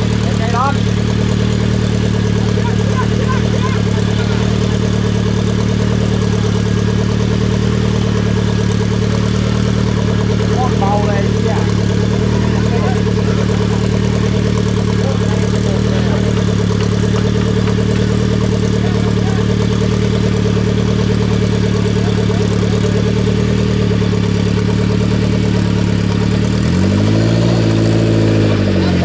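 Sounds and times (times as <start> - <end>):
buggy engine idling and revving: 0.0 - 29.0.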